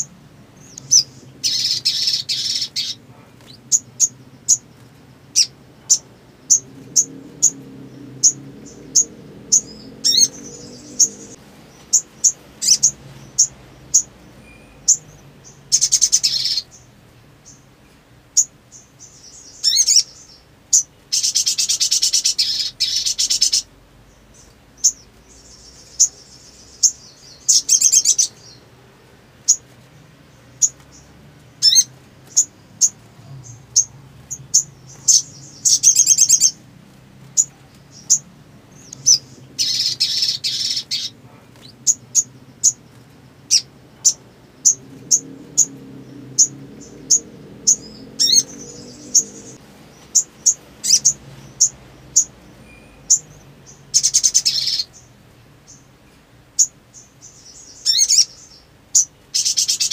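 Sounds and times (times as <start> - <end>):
bird chirping and trilling: 0.0 - 28.8, 29.4 - 36.7, 37.3 - 55.1, 55.7 - 59.9.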